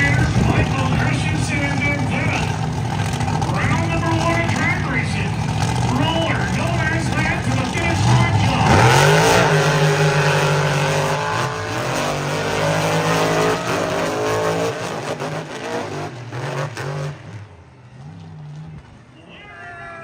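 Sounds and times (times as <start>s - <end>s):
monster truck engines revving: 0.0s - 20.0s.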